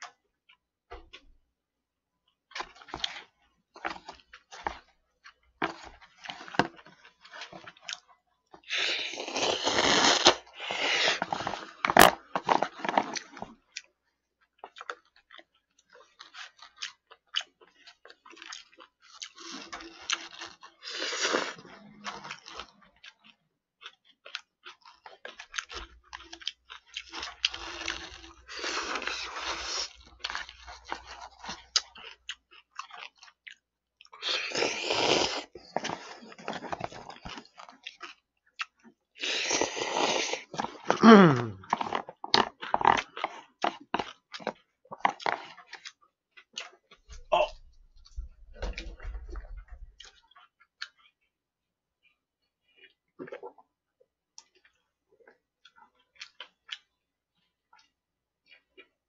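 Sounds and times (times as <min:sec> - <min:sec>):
chewing and slurping noodles: 0:02.3 - 0:59.0.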